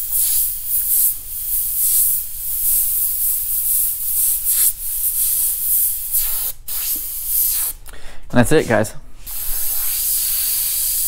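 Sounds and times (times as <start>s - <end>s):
airbrush spraying hiss: 0.0s - 7.8s, 8.6s - 11.0s.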